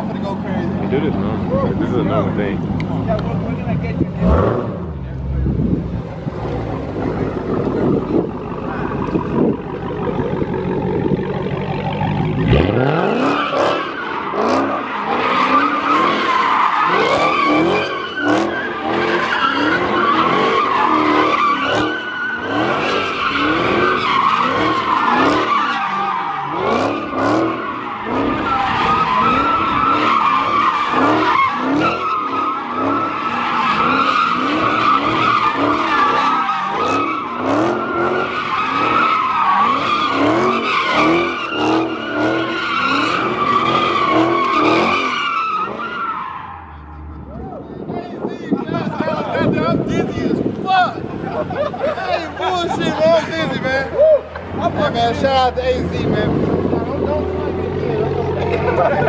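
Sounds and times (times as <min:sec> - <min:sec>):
car engine revving: 0:00.0 - 0:59.0
tire squeal: 0:00.0 - 0:59.0.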